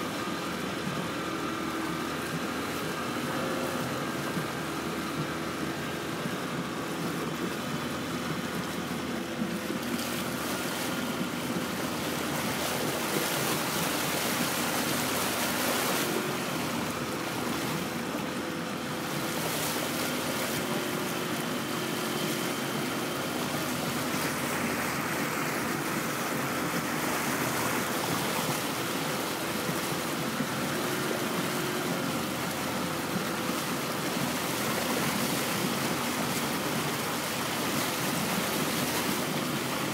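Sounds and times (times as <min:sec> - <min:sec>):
faint engine hum: 0:00.0 - 0:39.9
water lapping against boat hull: 0:00.0 - 0:39.9.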